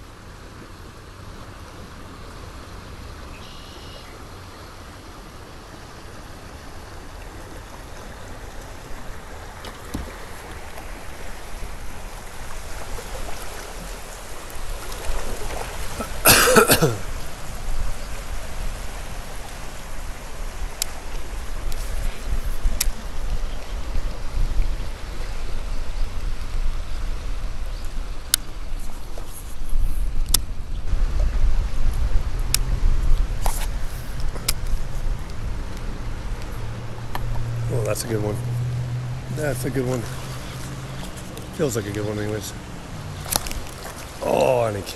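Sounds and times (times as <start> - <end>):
river current trickling: 0.0 - 44.9.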